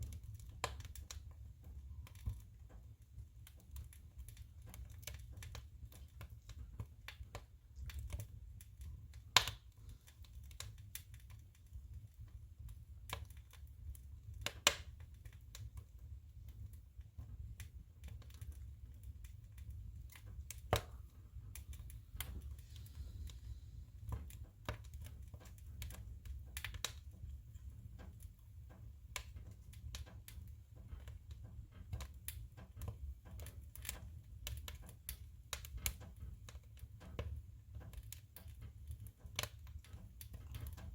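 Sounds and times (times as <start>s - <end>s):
firewood crackling in a stove: 0.0s - 40.9s.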